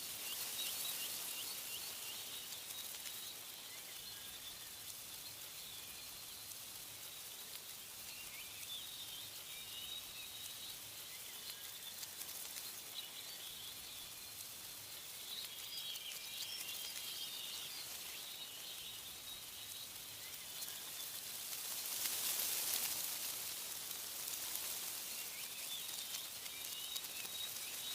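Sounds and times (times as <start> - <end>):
small birds chirping: 0.0 - 27.9
wind rustling leaves: 0.0 - 27.9.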